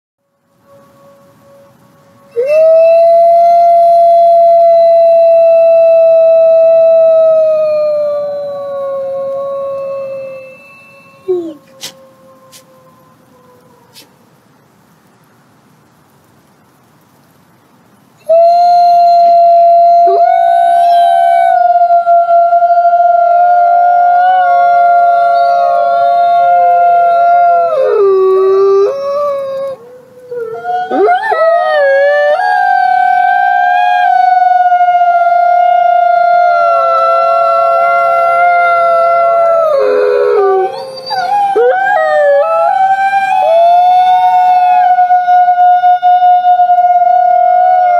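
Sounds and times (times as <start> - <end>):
wolves howling: 2.3 - 14.1, 18.2 - 47.9.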